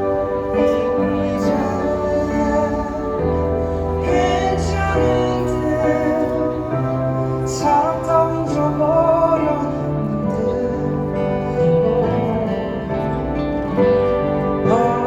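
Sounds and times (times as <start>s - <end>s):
live band playing a ballad: 0.0s - 15.0s.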